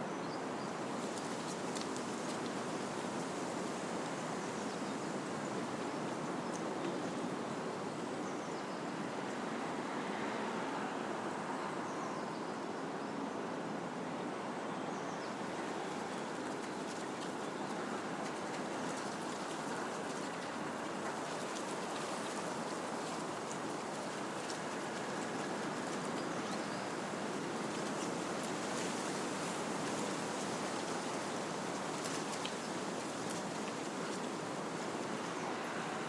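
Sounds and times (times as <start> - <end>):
wind rushing through trees: 0.0 - 36.0.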